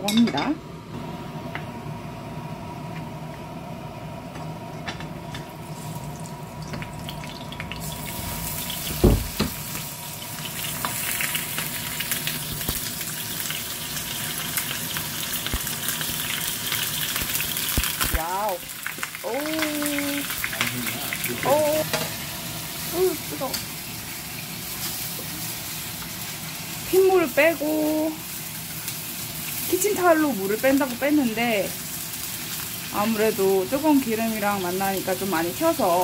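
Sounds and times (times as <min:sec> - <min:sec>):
meat sizzling and crackling: 0:05.4 - 0:36.0
oil hissing in frying pan: 0:05.6 - 0:36.0.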